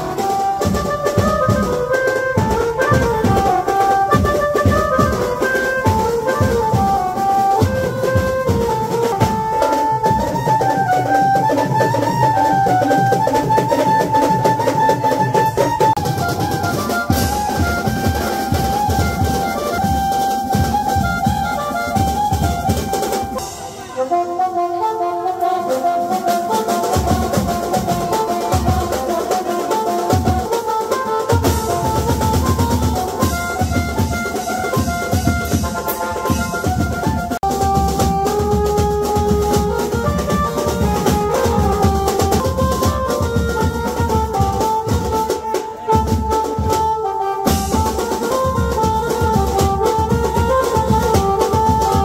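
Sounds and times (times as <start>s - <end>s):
brass horns playing melody: 0.0s - 13.8s, 15.4s - 52.0s
loud steady drumming: 0.0s - 52.0s.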